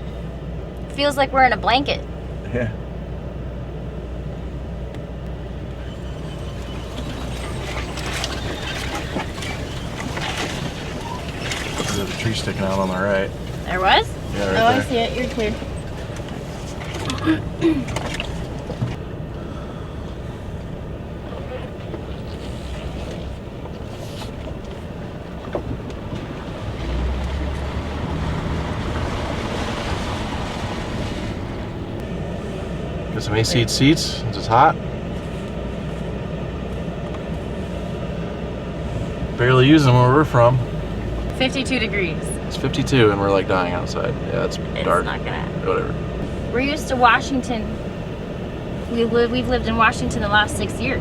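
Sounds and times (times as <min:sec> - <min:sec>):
engine and tyre rumble: 0:00.0 - 0:51.0
branches scraping vehicle sides: 0:05.2 - 0:51.0.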